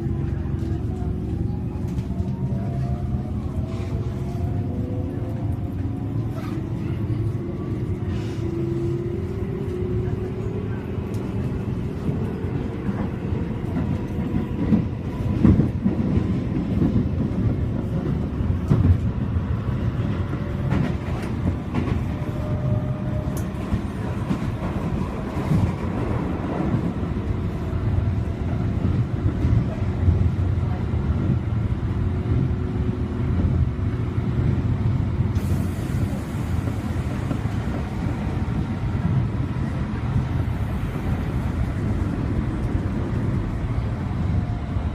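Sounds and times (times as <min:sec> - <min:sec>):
electric train rumble: 0:00.0 - 0:44.9.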